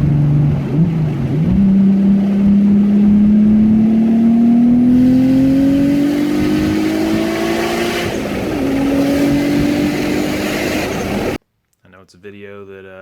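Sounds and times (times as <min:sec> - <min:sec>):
car engine revving on dyno: 0:00.0 - 0:11.4.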